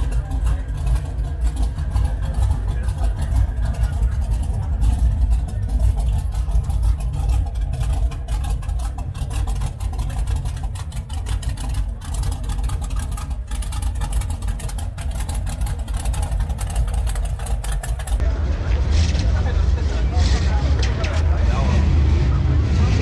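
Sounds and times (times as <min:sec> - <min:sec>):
hot rod engine idling: 0:00.0 - 0:22.7
crowd chatter: 0:00.0 - 0:23.0.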